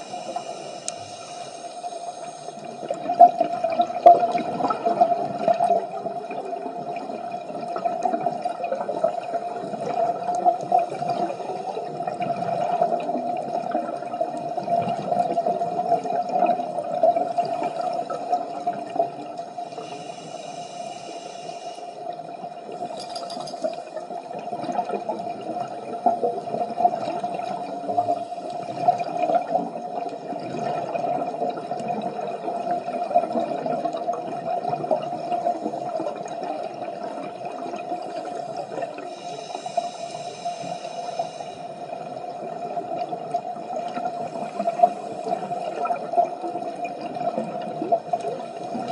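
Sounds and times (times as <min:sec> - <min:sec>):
regulator bubbles gurgling underwater: 0:00.0 - 0:48.9.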